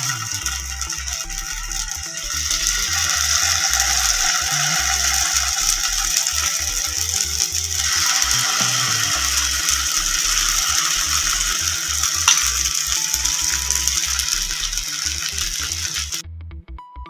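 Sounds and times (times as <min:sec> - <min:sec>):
batter sizzling in oil: 0:00.0 - 0:16.2
background music: 0:00.0 - 0:17.0.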